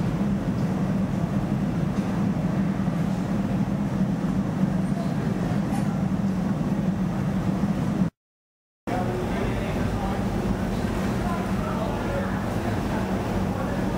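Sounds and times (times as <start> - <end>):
laundry machinery hum: 0.0 - 8.2, 8.9 - 13.9.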